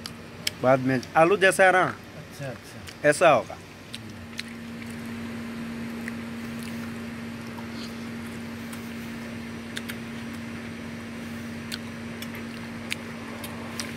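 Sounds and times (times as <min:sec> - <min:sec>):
machine hum: 0:00.0 - 0:13.9.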